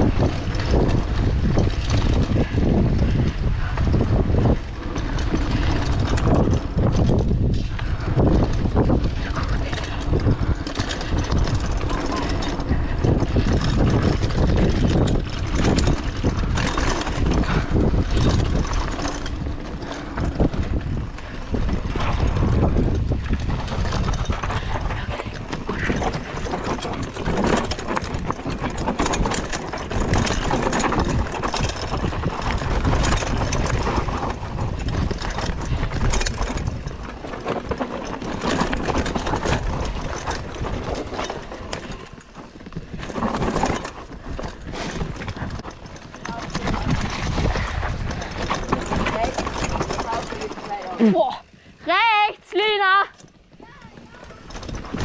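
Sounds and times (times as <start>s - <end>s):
bike knocks and rattles: 0.0s - 51.4s, 53.2s - 55.0s
bike tyres rolling over dirt: 0.0s - 52.0s, 53.2s - 55.0s.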